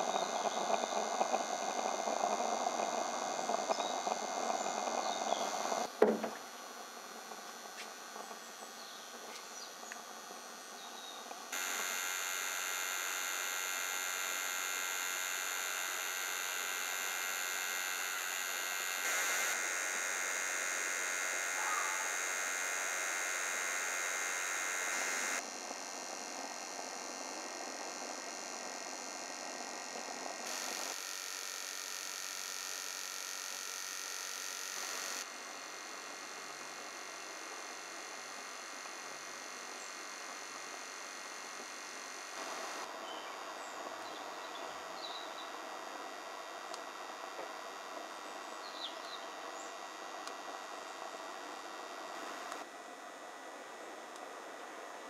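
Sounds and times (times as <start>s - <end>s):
faint hum: 0.0s - 55.0s.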